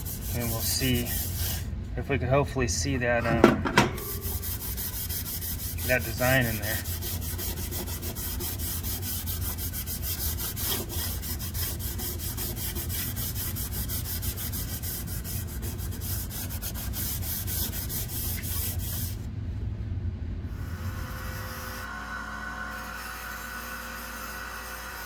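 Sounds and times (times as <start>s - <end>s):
abrasive pad scrubbing saw blade: 0.0s - 1.7s, 3.0s - 19.2s, 20.6s - 21.9s, 22.5s - 25.0s.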